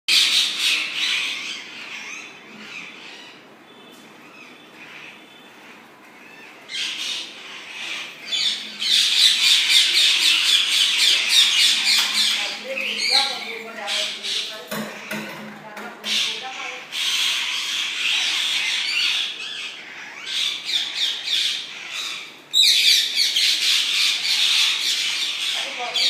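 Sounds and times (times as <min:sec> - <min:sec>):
parrots squawking: 0:00.1 - 0:26.0.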